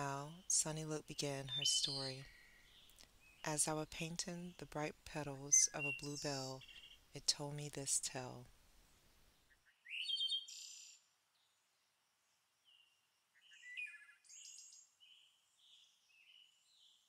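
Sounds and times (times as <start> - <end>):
birds chirping and trilling: 0.0 - 7.1, 9.3 - 11.6, 12.6 - 17.0.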